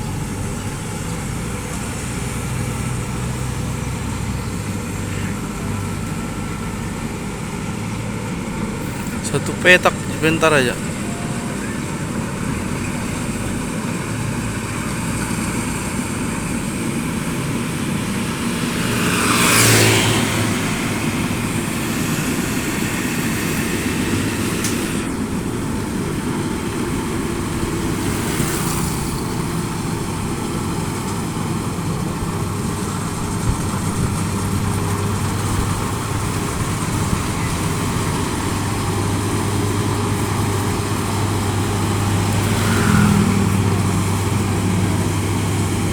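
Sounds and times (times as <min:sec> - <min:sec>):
combine harvester engine drone: 0:00.0 - 0:45.9.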